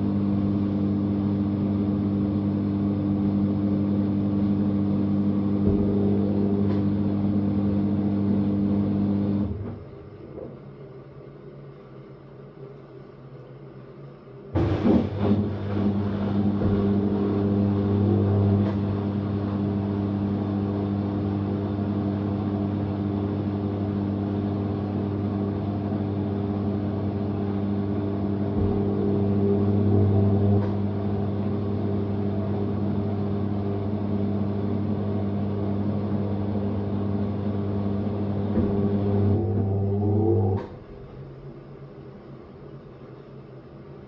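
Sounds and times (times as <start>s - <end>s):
washing machine motor humming: 0.0s - 10.2s, 14.6s - 41.4s.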